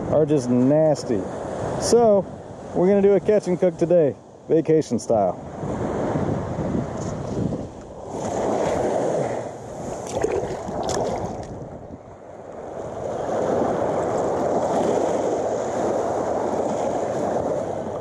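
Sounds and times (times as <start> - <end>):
surf water sloshing and lapping: 0.4 - 4.4, 5.4 - 18.0.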